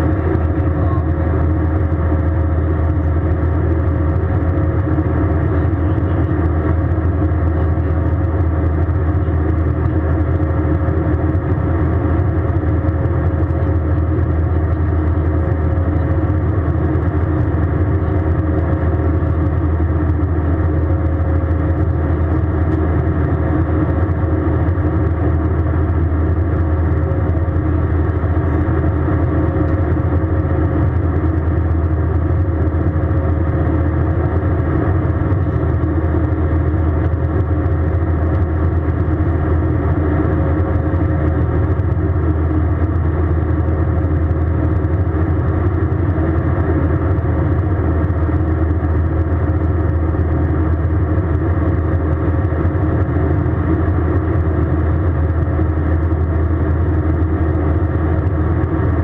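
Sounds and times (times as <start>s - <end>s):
faint constant hum: 0.0s - 59.0s
jet engine cabin drone: 0.0s - 59.0s.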